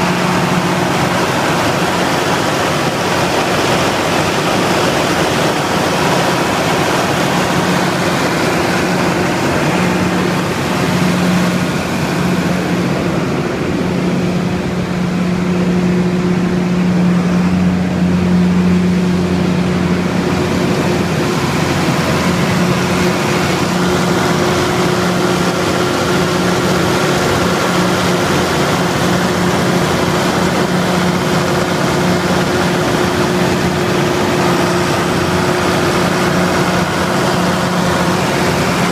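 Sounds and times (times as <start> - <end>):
cooling fan rushing: 0.0 - 38.9
diesel generator engine hum: 0.0 - 38.9.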